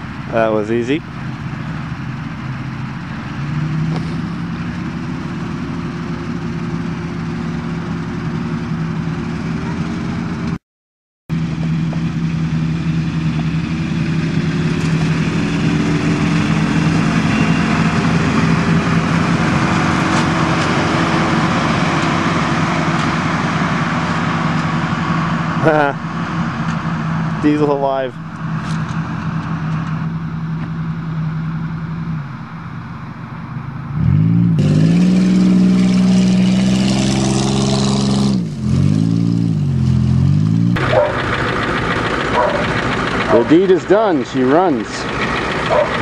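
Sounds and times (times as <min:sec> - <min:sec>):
diesel truck engine idling: 0:00.0 - 0:10.6, 0:11.3 - 0:34.0, 0:39.6 - 0:46.0.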